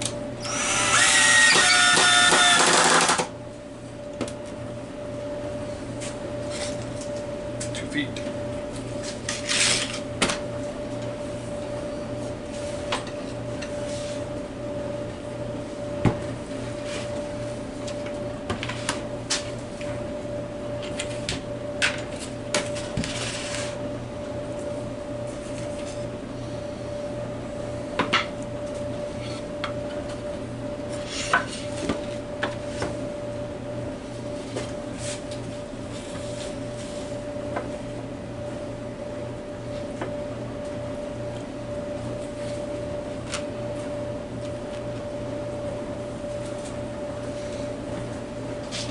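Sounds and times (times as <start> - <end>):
steady electrical hum: 0.0 - 48.9.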